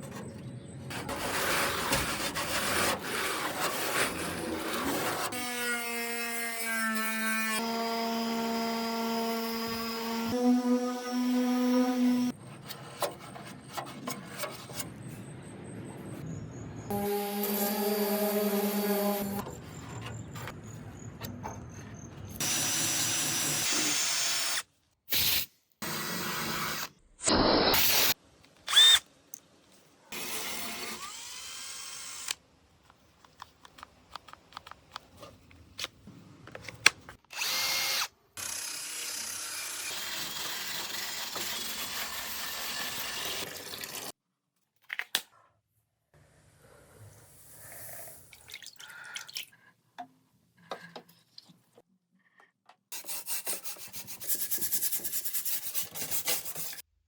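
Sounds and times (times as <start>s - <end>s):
small workshop noises: 0.0s - 57.0s.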